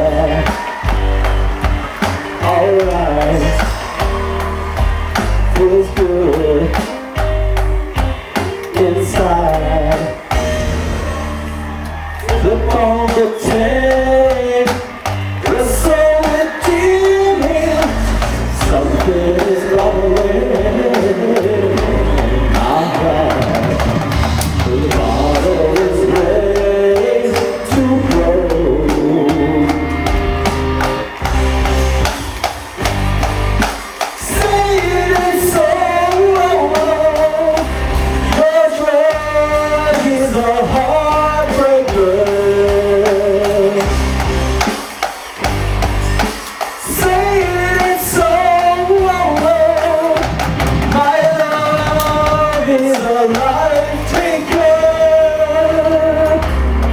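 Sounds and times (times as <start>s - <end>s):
pulsing bass line: 0.0s - 38.4s, 39.1s - 52.8s, 53.4s - 56.9s
band playing a song: 0.0s - 56.9s
drum kit: 0.0s - 56.9s.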